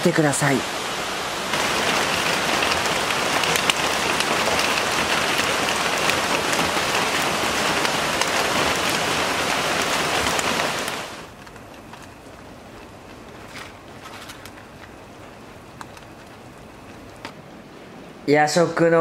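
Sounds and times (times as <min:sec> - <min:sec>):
steady rain: 0:00.0 - 0:19.0
raindrops on metal pan lid: 0:01.5 - 0:17.3.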